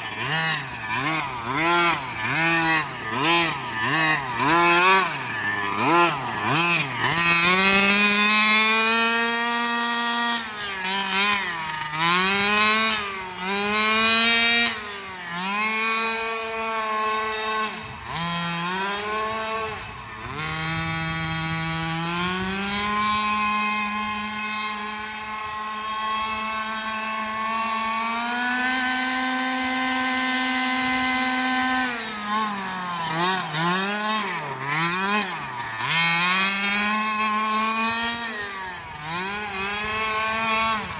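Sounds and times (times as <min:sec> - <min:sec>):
rc car engine revving: 0:00.0 - 0:40.9.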